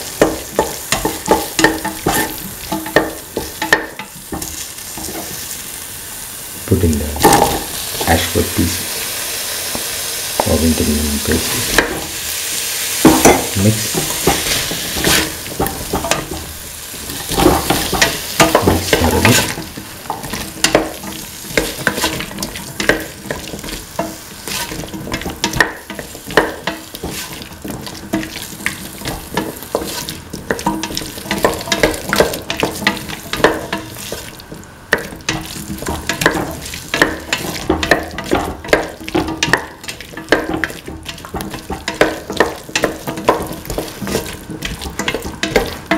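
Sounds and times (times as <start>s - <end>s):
spatula scraping a pan: 0.0s - 5.6s, 13.0s - 45.9s
frying sizzle: 0.0s - 45.9s.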